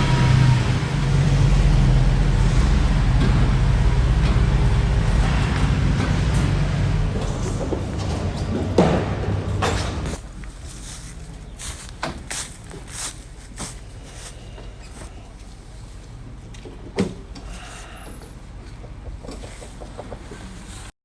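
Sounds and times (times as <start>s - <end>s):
running vehicle rumble: 0.0s - 20.9s.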